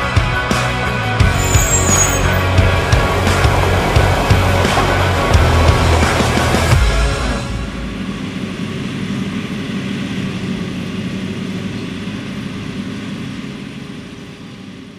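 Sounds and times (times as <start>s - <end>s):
forage harvester engine and chopper: 0.0s - 14.9s.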